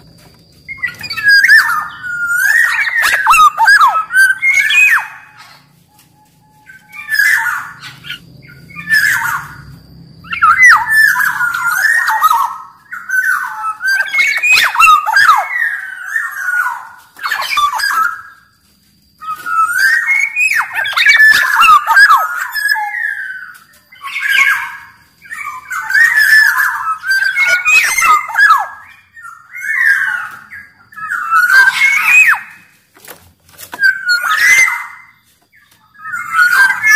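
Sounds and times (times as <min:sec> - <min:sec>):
bird singing fluty whistles: 0:00.0 - 0:18.6, 0:19.2 - 0:32.8, 0:33.7 - 0:36.9.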